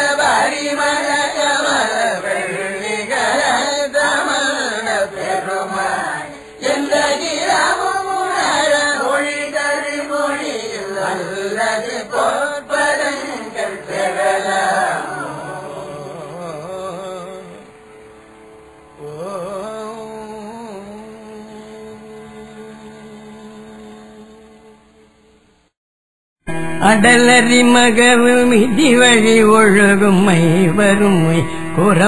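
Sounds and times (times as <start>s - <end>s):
person singing devotional hymn: 0.0s - 17.7s, 19.0s - 25.0s, 26.8s - 32.0s.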